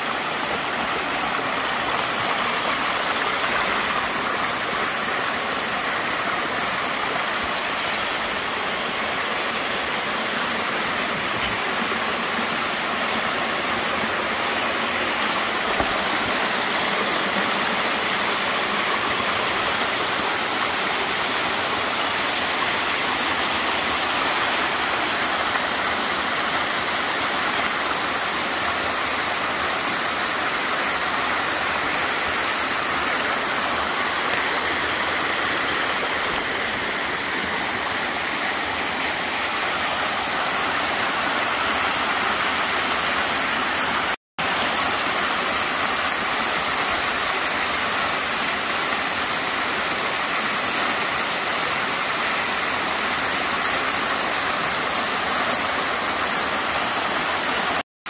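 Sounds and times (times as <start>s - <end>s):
waterfall splashing over rocks: 0.0s - 57.9s.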